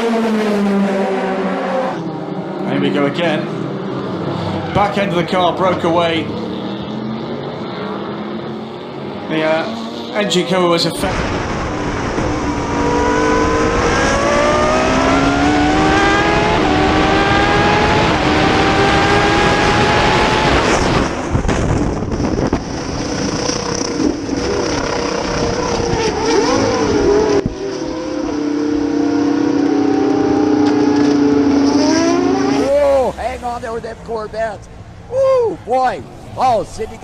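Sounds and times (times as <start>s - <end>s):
racing car engines: 0.0s - 37.0s.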